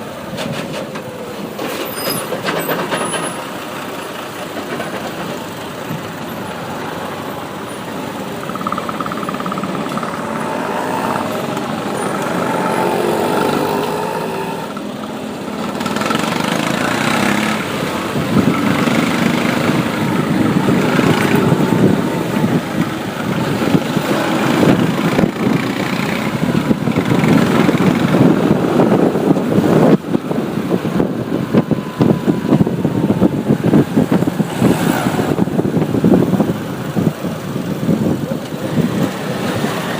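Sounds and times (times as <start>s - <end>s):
road noise: 0.0s - 39.9s
vehicle engines: 0.0s - 39.9s.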